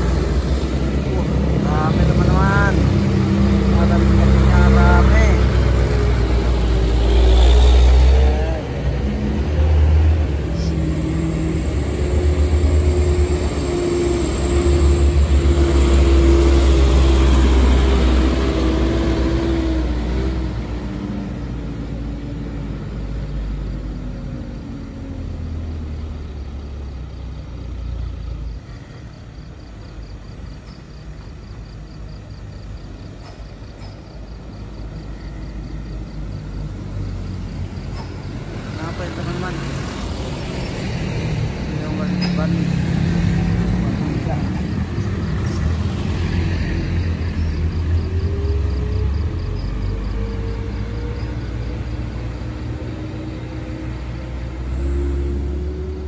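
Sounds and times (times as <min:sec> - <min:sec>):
road traffic passing: 0:00.0 - 0:56.0
truck diesel engine drone: 0:00.0 - 0:56.0.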